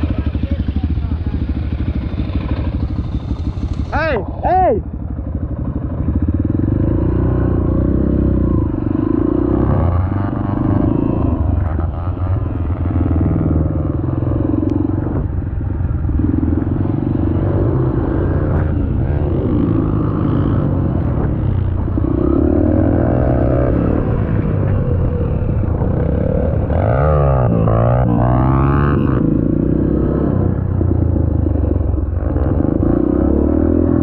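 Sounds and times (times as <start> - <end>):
dirt bike engine revving: 1.4 - 31.1.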